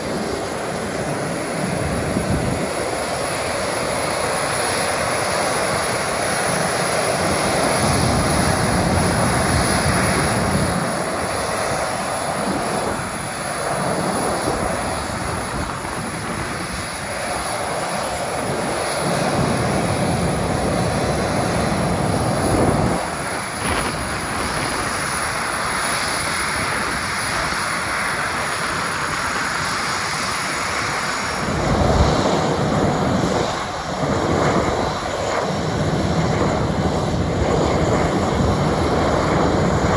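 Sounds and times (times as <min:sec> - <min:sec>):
jet engines at taxi thrust: 0:00.0 - 0:39.9.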